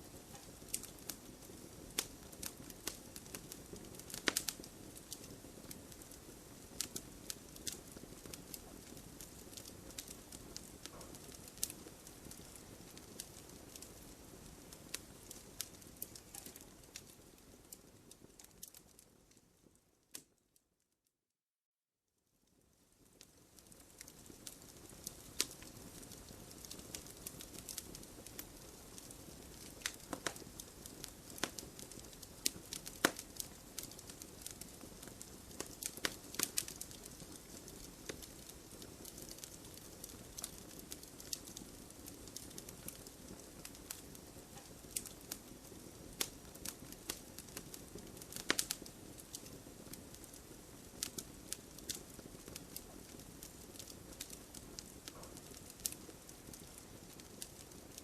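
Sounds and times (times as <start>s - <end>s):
wood fire crackling and popping: 0.0s - 20.4s, 22.5s - 58.0s.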